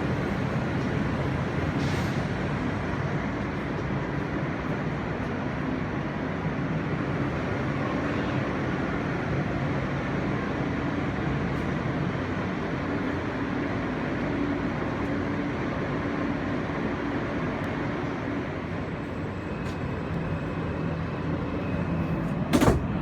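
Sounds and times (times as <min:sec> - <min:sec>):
subway car rumbling: 0:00.0 - 0:23.0.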